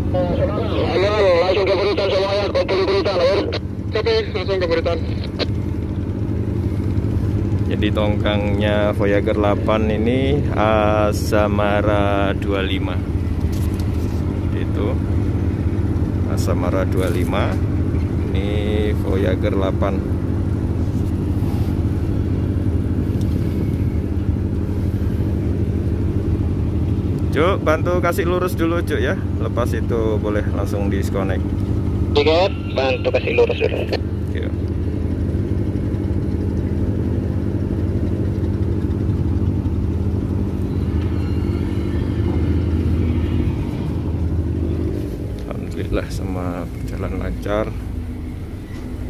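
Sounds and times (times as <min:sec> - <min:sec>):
boat diesel engine droning: 0:00.0 - 0:49.0.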